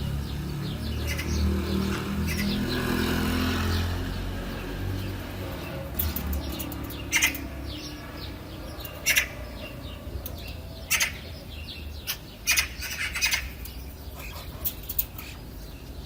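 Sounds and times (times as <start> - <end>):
soft bird chirps: 0.0 - 16.0.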